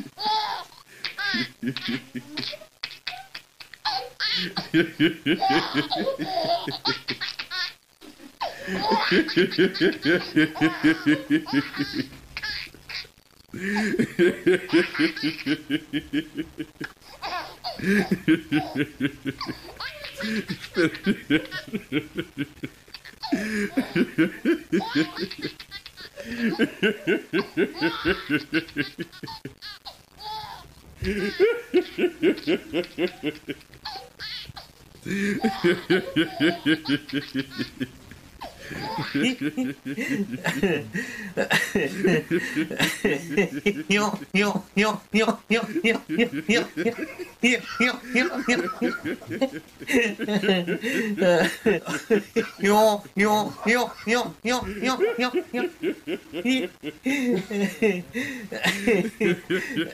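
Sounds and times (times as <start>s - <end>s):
man laughing hard: 4.2s - 7.2s, 8.4s - 12.2s, 13.6s - 17.0s, 17.7s - 29.8s, 31.0s - 33.7s, 35.1s - 59.9s.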